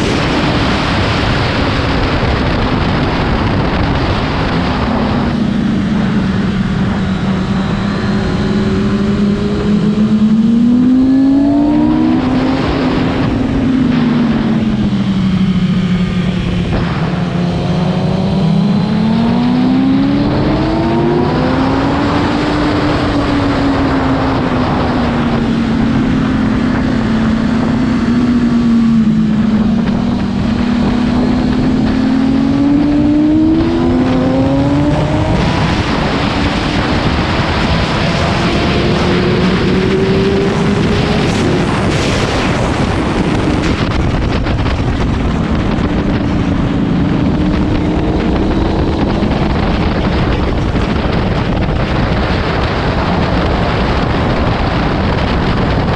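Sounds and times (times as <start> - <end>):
motorcycle engine revving: 0.0 - 55.9
wind noise: 0.0 - 55.9.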